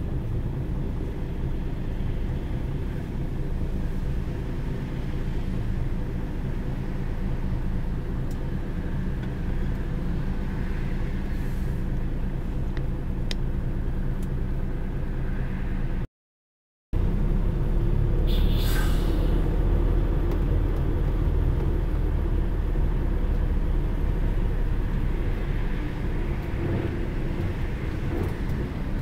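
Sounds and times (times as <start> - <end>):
vehicle engine and road noise: 0.0 - 16.1, 17.0 - 29.0.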